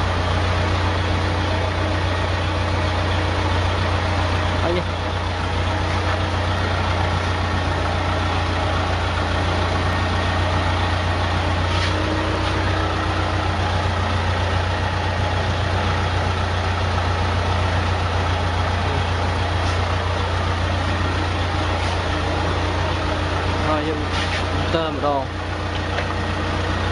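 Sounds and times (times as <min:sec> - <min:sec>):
generator engine humming: 0:00.0 - 0:26.9.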